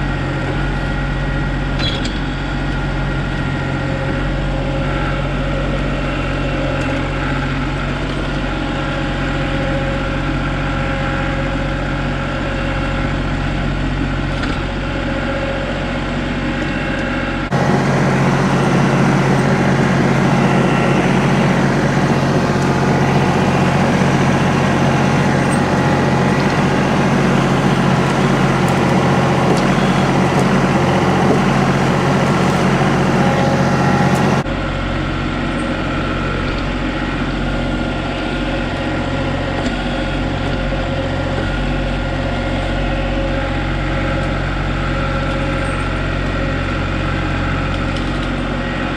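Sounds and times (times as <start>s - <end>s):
engine running steadily: 0.0s - 48.9s
louder rougher engine: 0.0s - 48.9s.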